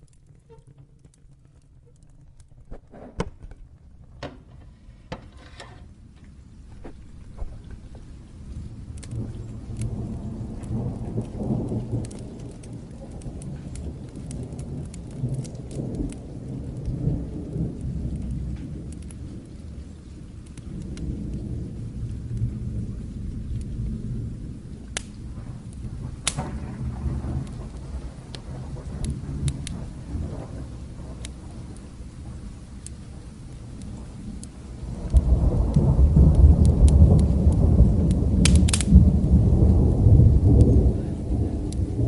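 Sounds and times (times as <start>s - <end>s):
steady rain: 0.0s - 42.0s
wood fire crackling: 0.0s - 42.0s
distant thunder rumbling: 3.0s - 42.0s.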